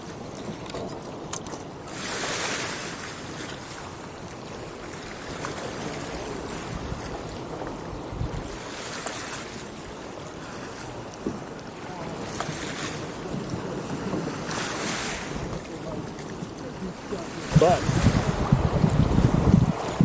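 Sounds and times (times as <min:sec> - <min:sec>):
water splashing around canoe: 0:00.0 - 0:20.0
wind rumbling on microphone: 0:00.0 - 0:20.0.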